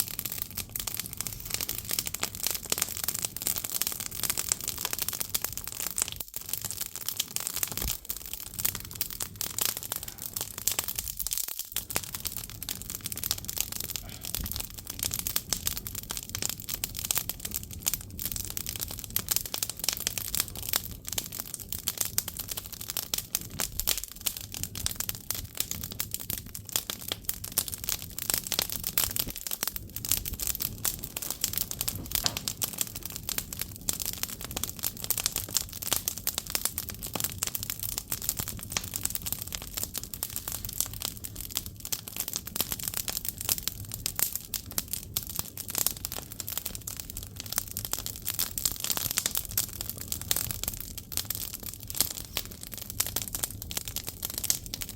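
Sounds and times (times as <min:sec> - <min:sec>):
firewood crackling: 0:00.0 - 0:54.9.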